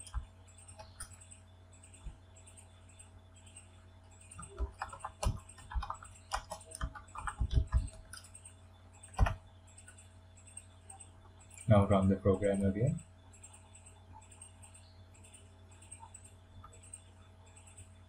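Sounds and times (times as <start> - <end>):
computer keyboard typing: 0.0 - 18.0
faint steady hum: 0.0 - 18.0.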